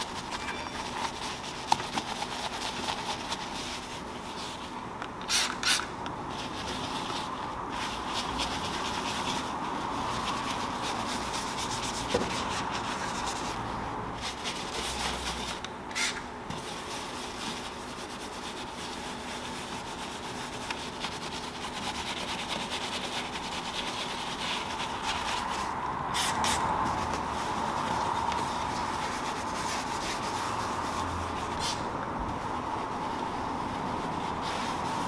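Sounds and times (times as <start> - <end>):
brush scrubbing plastic: 0.0 - 15.6, 16.5 - 35.0
steady hum: 0.0 - 35.0.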